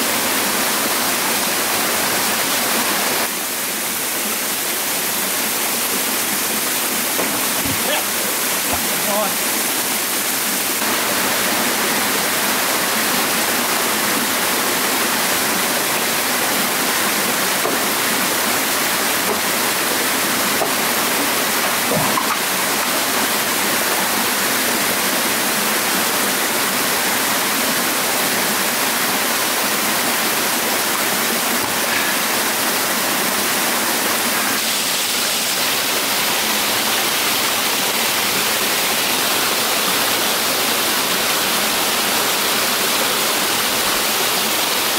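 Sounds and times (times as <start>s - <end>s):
waterfall rushing into a pool: 0.0s - 44.9s.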